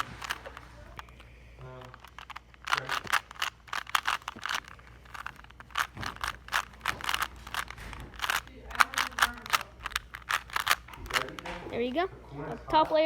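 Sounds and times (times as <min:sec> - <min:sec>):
plastic puzzle cube clicking: 0:00.0 - 0:01.2, 0:01.8 - 0:11.9.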